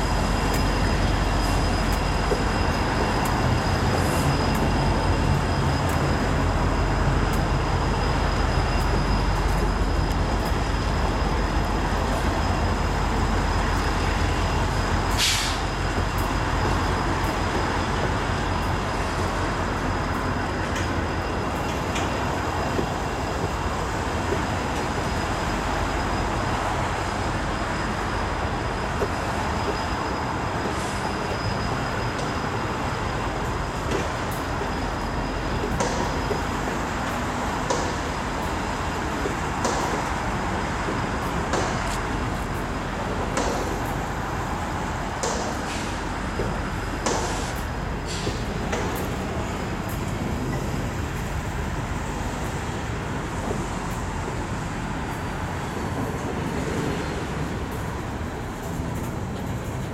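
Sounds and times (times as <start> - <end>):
rumble of wheels on rail: 0.0 - 59.9.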